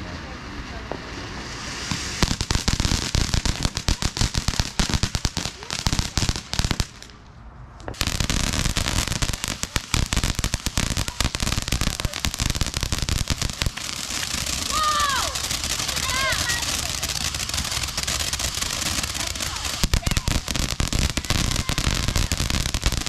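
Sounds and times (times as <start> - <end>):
firework fountain crackling: 0.0 - 23.0.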